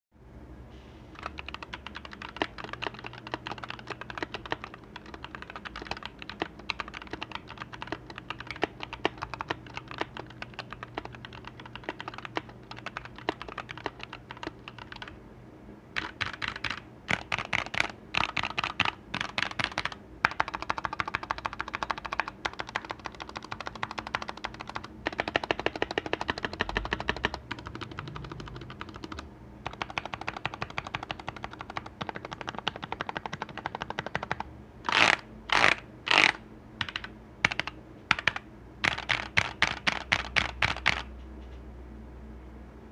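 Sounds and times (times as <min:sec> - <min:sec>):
mechanical keyboard typing: 0:01.2 - 0:15.2, 0:16.0 - 0:41.1.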